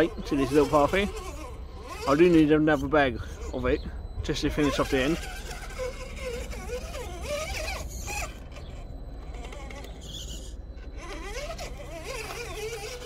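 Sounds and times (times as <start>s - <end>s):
electric motor and gearbox whining: 0.0s - 13.0s.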